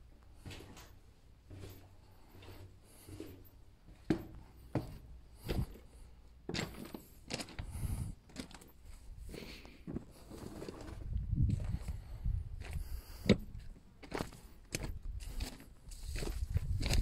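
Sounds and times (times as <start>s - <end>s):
footsteps crunching on rubble: 0.3s - 17.0s.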